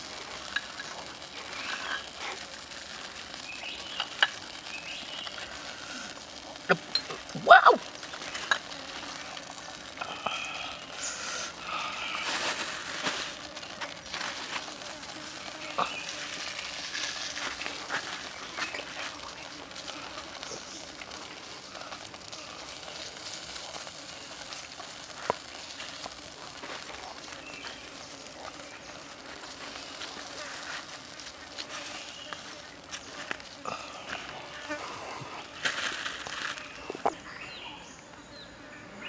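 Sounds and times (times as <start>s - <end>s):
pops and crackles: 0.0s - 37.2s
frog sizzling on grill: 0.0s - 38.8s.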